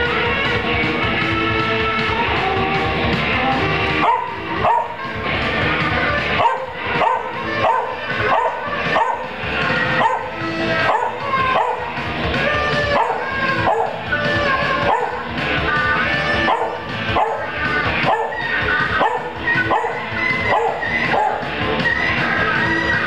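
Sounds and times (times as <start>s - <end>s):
rock song with saxophone: 0.0s - 23.0s
dog howling: 1.8s - 23.0s.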